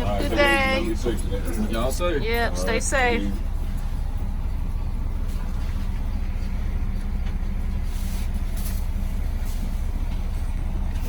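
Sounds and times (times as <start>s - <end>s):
bus engine low drone: 0.0s - 11.0s.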